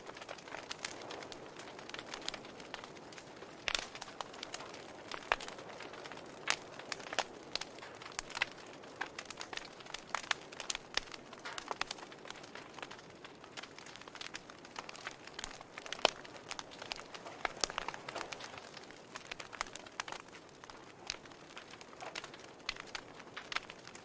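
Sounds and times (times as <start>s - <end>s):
soft fire hiss: 0.0s - 24.0s
wood fire crackling and popping: 0.0s - 24.0s.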